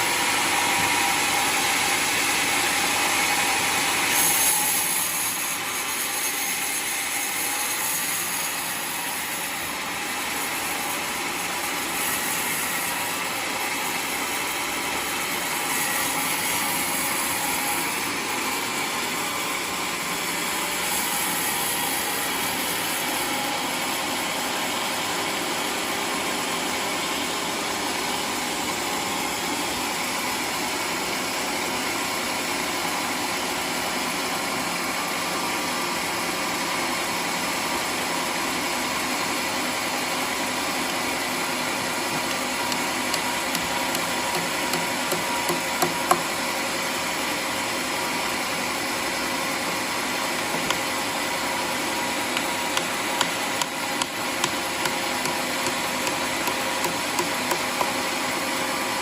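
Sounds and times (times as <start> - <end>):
sawmill sawing a log: 0.0 - 59.0.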